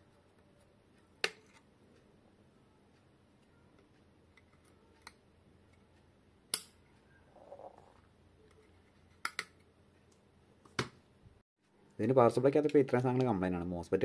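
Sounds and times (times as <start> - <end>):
faint steady background noise: 0.0 - 14.0.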